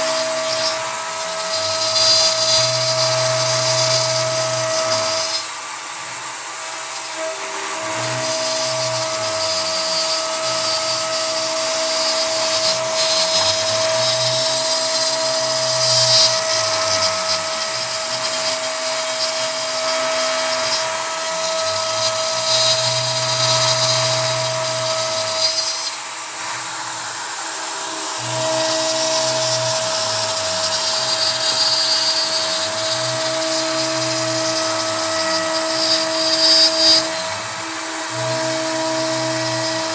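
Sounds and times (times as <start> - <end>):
router spindle whine: 0.0 - 39.9
stepper motors humming: 0.0 - 39.9.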